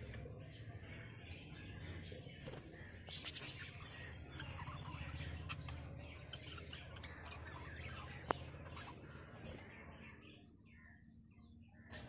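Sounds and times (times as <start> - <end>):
low steady hum: 0.0 - 12.0
budgerigars chirping: 0.4 - 10.9.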